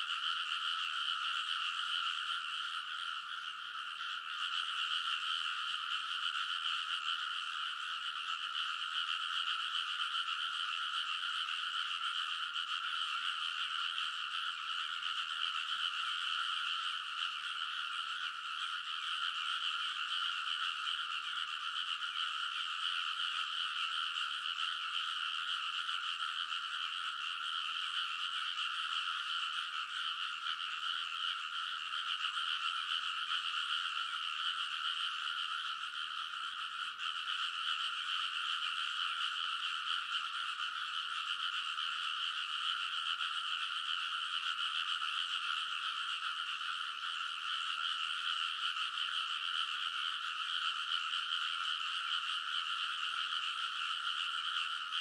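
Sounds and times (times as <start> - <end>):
chorus of frogs calling: 0.0 - 55.0.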